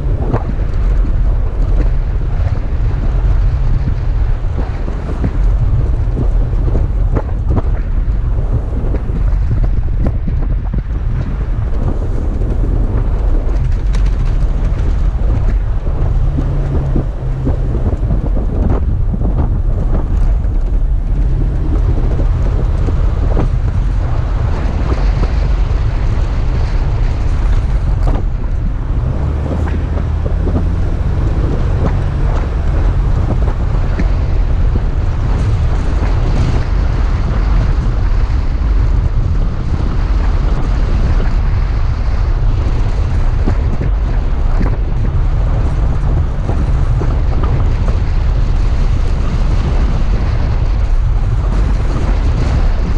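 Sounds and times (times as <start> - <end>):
engine and driving rumble: 0.0 - 52.9
wind buffeting microphone: 0.0 - 52.9.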